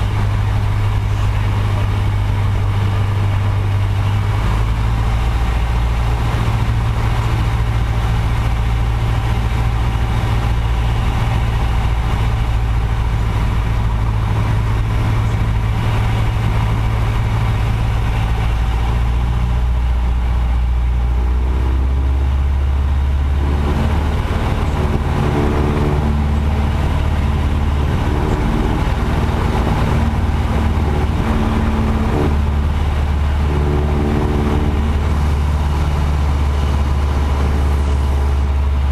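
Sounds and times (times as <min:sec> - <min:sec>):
light aircraft engine drone: 0:00.0 - 0:38.9.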